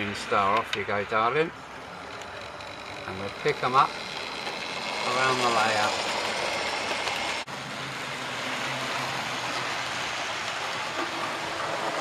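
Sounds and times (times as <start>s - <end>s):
model train motors and wheels: 0.0s - 12.0s.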